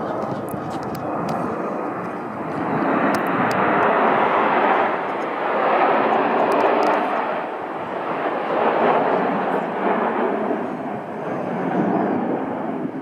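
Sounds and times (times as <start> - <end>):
jets flying past: 0.0 - 13.0.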